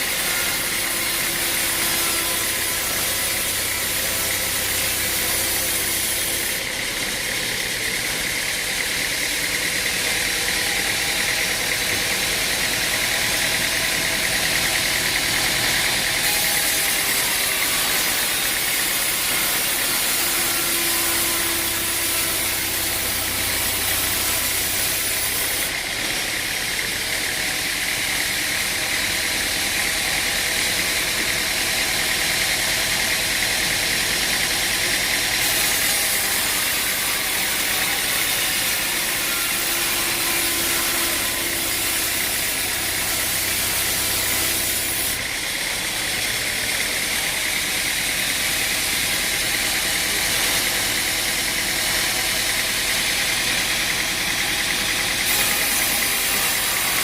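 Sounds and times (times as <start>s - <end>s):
machinery running: 0.0s - 57.0s.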